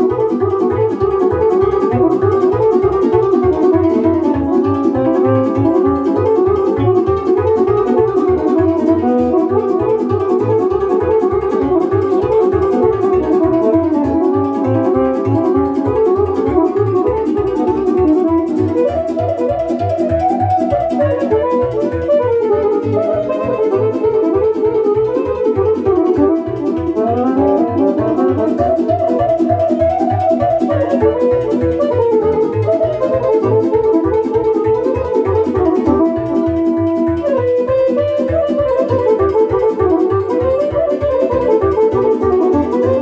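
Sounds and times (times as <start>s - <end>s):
accordion: 0.0s - 43.0s
electronic keyboard: 0.0s - 43.0s
quick bass beat: 0.0s - 43.0s.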